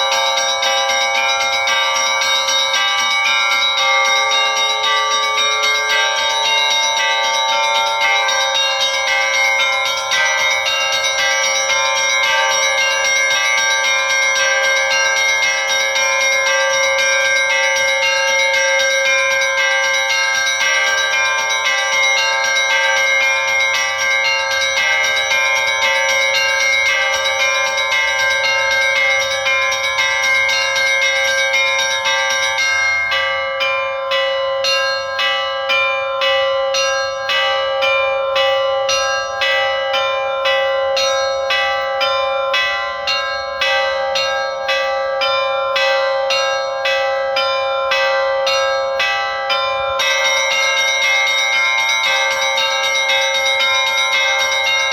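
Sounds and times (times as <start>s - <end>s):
lingering large bell tone: 0.0s - 54.9s
rapid peal of small bells: 0.0s - 54.9s.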